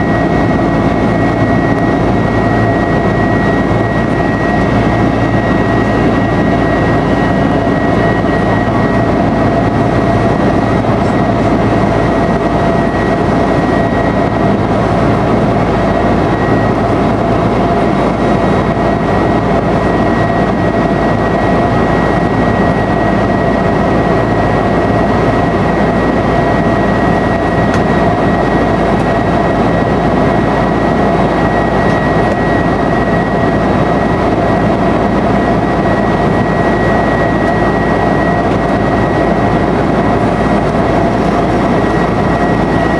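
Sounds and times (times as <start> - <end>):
jet engines droning in cabin: 0.0 - 42.9.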